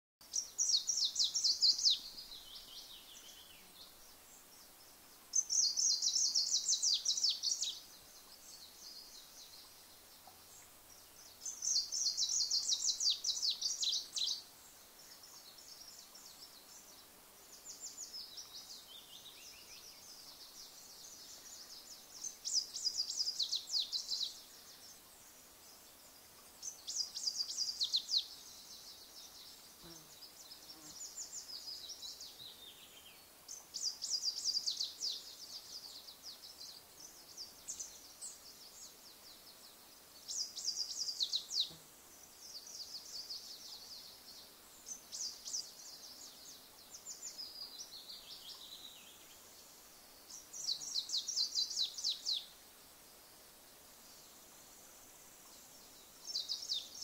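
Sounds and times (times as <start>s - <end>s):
small stream: 0.2s - 57.0s
wind hiss: 0.3s - 57.0s.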